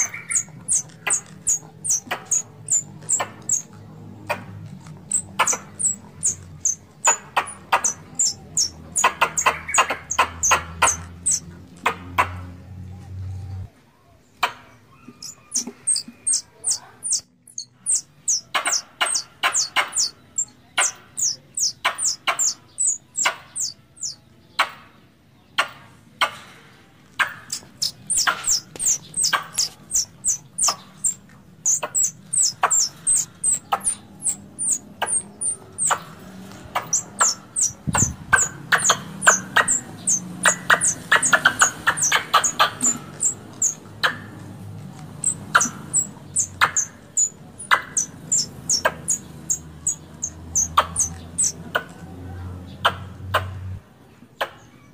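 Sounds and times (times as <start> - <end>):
squirrel call clicking chirps: 0.0 - 12.5, 14.4 - 24.8, 27.2 - 52.0, 52.8 - 53.8.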